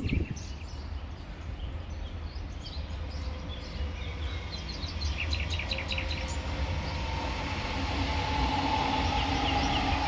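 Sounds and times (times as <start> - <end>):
birds chirping: 0.0 - 10.0
electric train passing with whine: 0.1 - 10.0.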